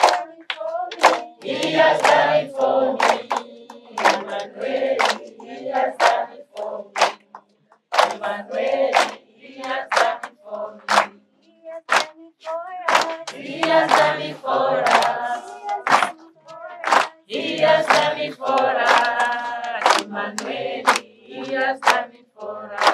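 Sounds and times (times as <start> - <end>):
group singing worship song: 0.0 - 22.9
people clapping along: 0.0 - 22.9.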